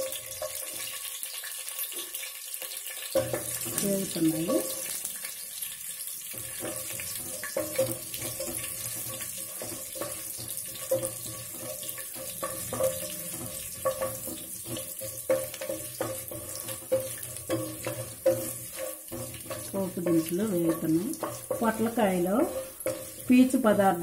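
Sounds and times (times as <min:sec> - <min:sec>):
spatula stirring: 0:00.0 - 0:01.2, 0:03.0 - 0:05.2, 0:06.2 - 0:24.0
spices sizzling in hot oil: 0:00.0 - 0:24.0.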